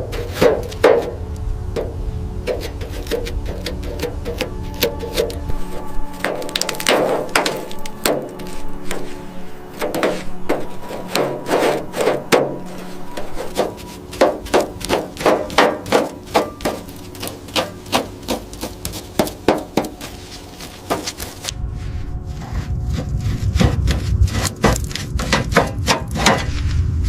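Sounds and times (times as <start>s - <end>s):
hand tool scraping and knocking: 0.0s - 1.2s, 2.5s - 21.6s, 22.4s - 26.5s.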